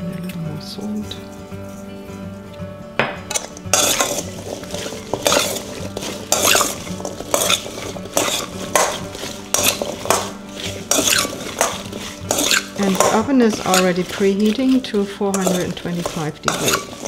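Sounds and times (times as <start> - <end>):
spoon scraping metal bowl: 3.2 - 17.0.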